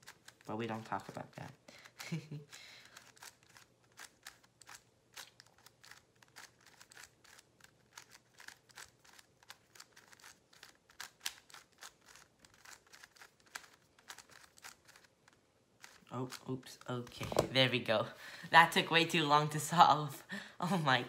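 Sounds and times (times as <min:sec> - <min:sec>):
puzzle cube clicking: 0:00.0 - 0:17.6.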